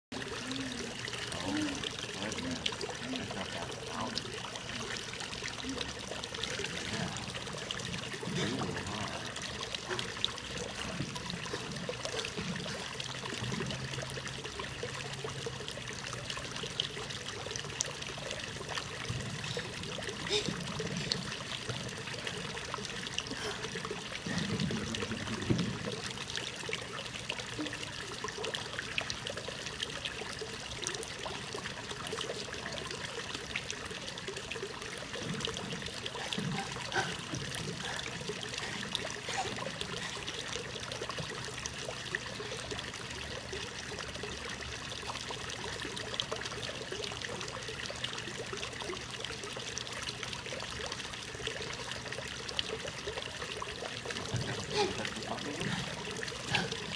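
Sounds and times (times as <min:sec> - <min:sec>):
small waterfall splashing into pond: 0:00.1 - 0:56.9.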